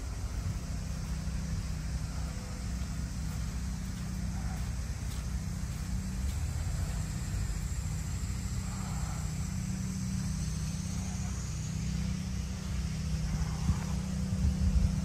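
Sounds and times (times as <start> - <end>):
tractor diesel engine idling: 0.0 - 14.9.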